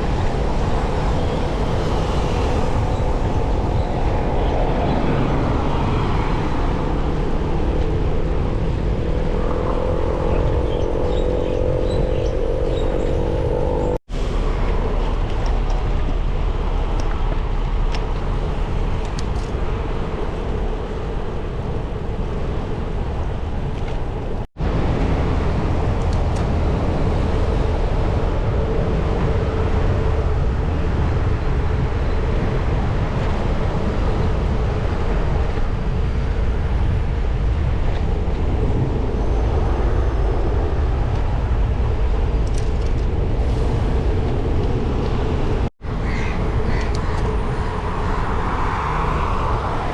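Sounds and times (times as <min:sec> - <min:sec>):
bicycle rolling noise: 0:00.0 - 0:45.7
wind: 0:00.0 - 0:49.9.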